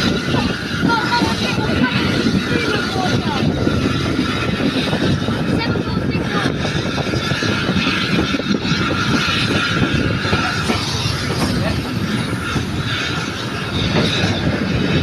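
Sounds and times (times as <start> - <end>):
continuous rattling: 0.0 - 15.0
train rumbling on track: 0.0 - 15.0.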